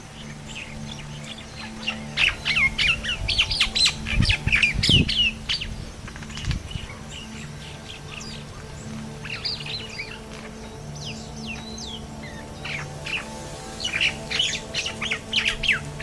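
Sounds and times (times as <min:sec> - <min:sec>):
birds chattering and squawking: 0:00.1 - 0:16.0.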